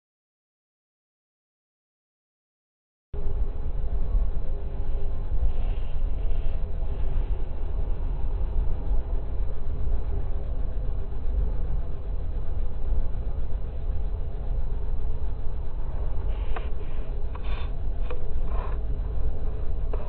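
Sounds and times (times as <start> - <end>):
faint sustained tones: 3.2 - 20.0
freight train wheels rumbling: 3.2 - 20.0.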